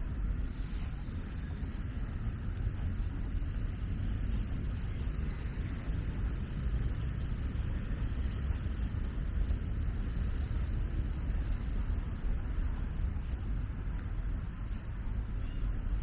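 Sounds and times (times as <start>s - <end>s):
deep low rumble: 0.0s - 16.0s
road traffic noise: 0.0s - 16.0s.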